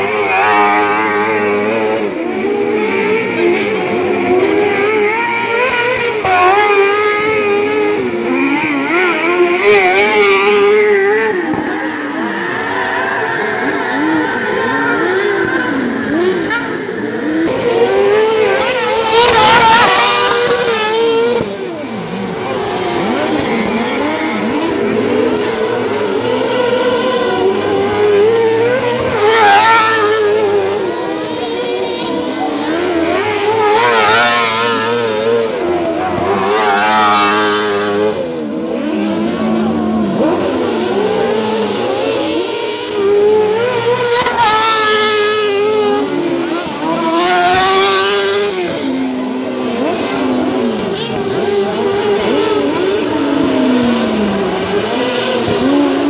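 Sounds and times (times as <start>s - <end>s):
racing buggy engines revving: 0.0s - 56.0s.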